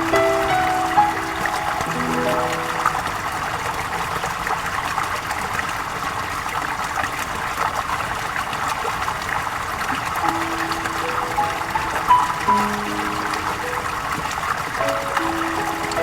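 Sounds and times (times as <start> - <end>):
stream trickling over stones: 0.0 - 16.0.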